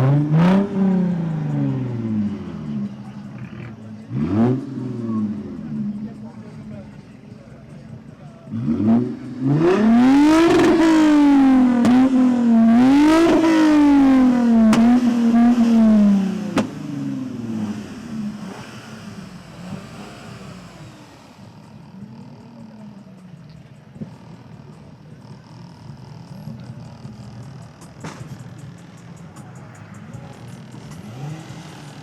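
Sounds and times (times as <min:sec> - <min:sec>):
car engine revving: 0:00.0 - 0:32.0
exhaust pops: 0:03.3 - 0:32.0.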